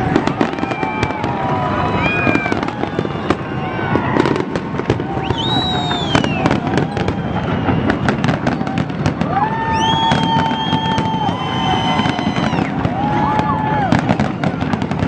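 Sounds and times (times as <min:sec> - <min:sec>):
fireworks bangs and crackles: 0:00.0 - 0:15.0
fireworks whistling: 0:00.0 - 0:15.0.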